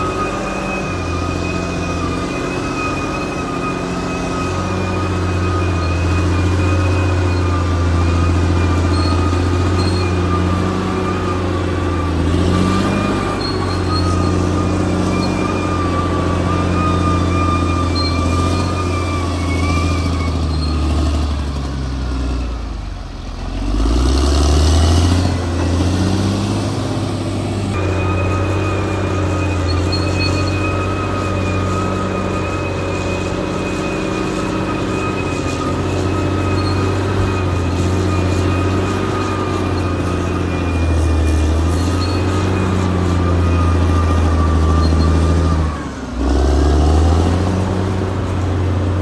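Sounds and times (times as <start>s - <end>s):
bulldozer diesel engine under load: 0.0s - 49.0s.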